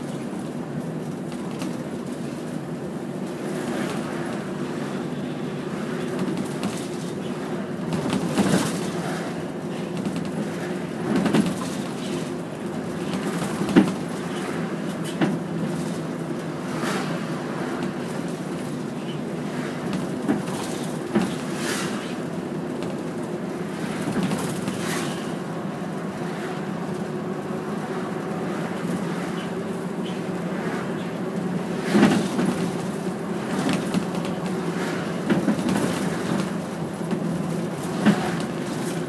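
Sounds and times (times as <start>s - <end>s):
bus engine drone: 0.0s - 39.0s.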